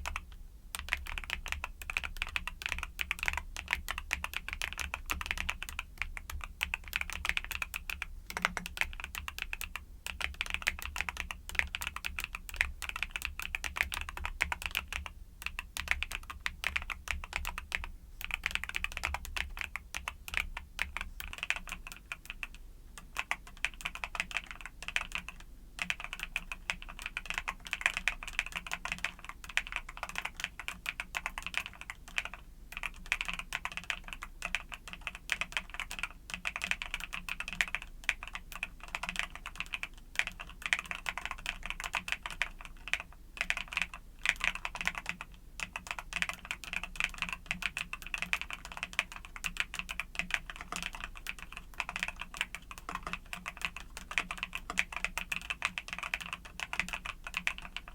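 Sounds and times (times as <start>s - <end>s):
fast mechanical keyboard typing: 0.0s - 57.9s.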